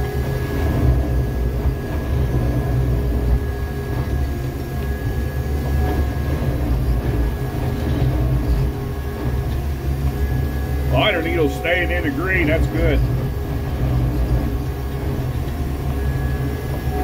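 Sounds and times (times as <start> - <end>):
heavy diesel hydraulic drone: 0.0 - 17.0
thin steady whine: 0.0 - 17.0.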